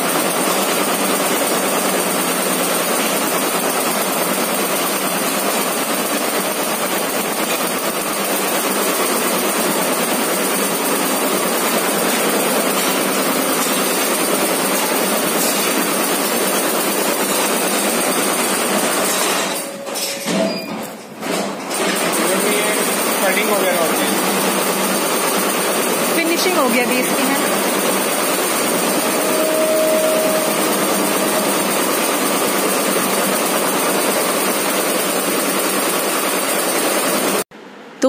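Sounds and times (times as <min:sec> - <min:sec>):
embroidery machine clattering: 0:00.0 - 0:37.4.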